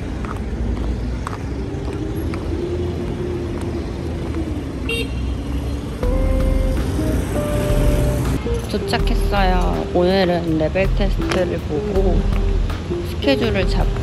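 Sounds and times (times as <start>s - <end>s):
cars passing with low rumble: 0.0s - 14.0s.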